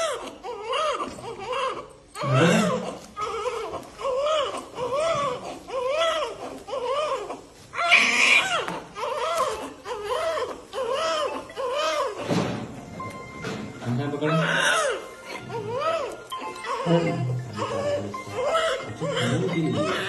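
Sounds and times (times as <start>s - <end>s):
infant crying: 0.0s - 12.3s, 14.0s - 20.0s.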